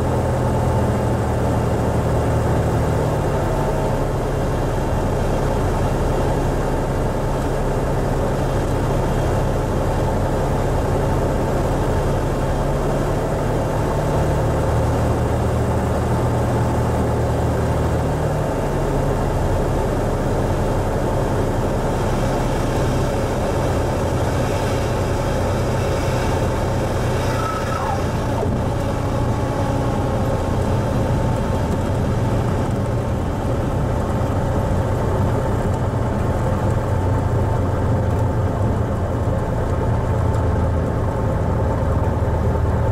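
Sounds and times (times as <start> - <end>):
light aircraft engine droning: 0.0 - 42.9.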